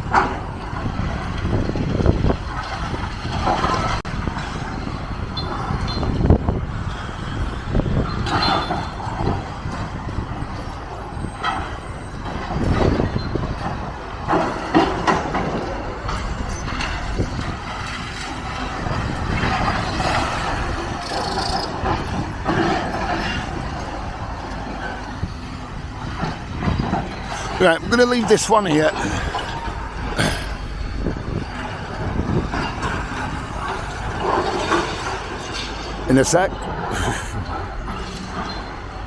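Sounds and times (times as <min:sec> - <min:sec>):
demolition machinery rumbling: 0:00.0 - 0:39.0.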